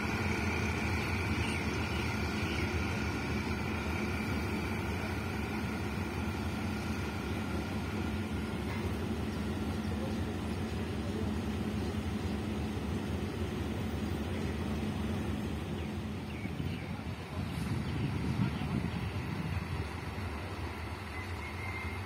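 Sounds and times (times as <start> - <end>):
diesel locomotive engine humming: 0.0 - 22.0.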